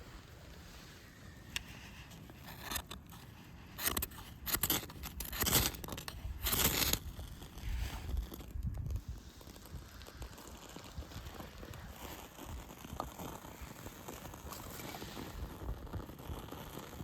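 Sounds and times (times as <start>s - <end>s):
rasping scrapes: 0.1s - 17.0s.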